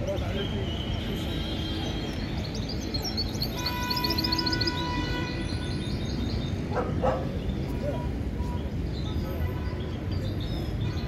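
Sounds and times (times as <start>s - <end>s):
market background noise: 0.0s - 11.0s
songbirds chirping: 0.0s - 11.0s.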